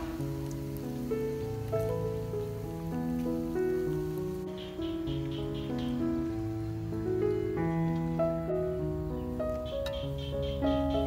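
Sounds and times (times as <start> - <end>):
soft music with slow held notes: 0.0 - 11.0.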